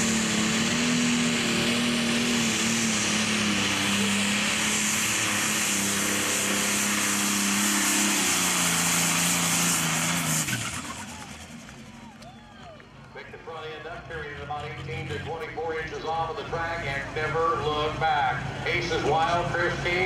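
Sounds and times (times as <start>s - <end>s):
diesel tractor engine at full throttle: 0.0s - 20.0s.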